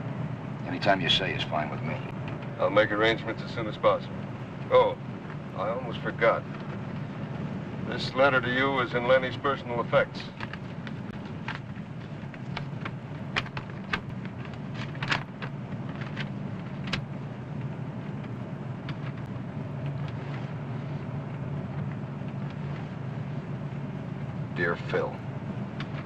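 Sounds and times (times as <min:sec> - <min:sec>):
car engine hum: 0:00.0 - 0:26.0
road noise: 0:00.0 - 0:26.0.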